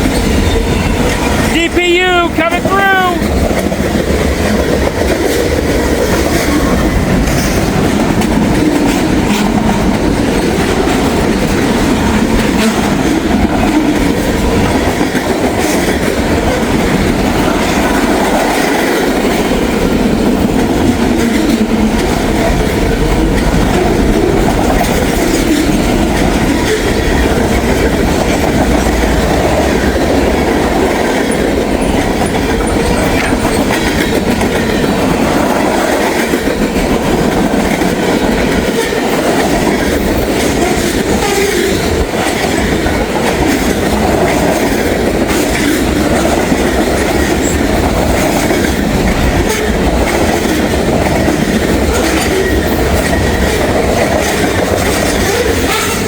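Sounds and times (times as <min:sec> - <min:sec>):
freight train rumbling past: 0:00.0 - 0:56.0
steel wheels clacking on rail joints: 0:03.2 - 0:56.0.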